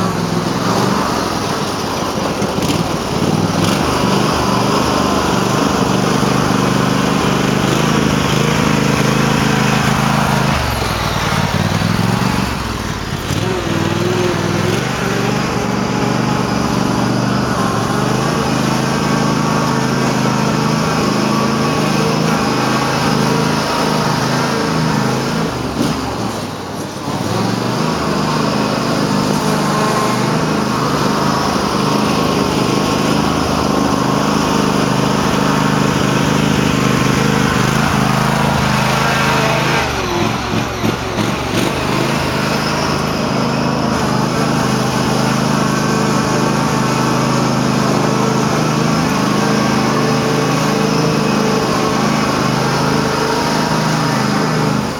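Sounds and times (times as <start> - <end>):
tractor engine at high revs: 0.0 - 54.9.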